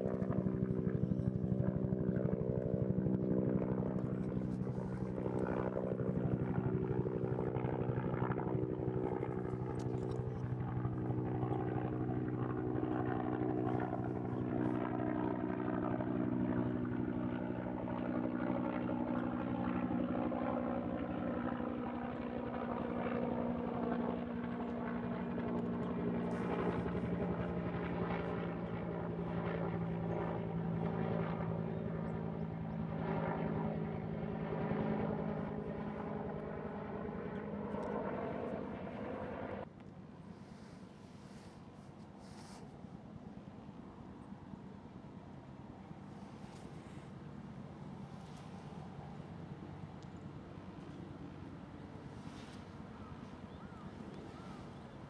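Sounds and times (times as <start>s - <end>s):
aircraft engine drone: 0.0s - 55.0s.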